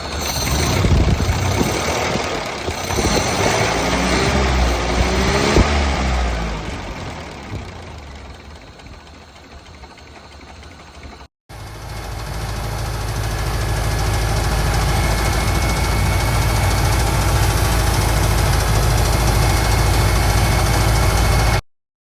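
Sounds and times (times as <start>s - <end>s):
engine running: 0.0s - 21.6s.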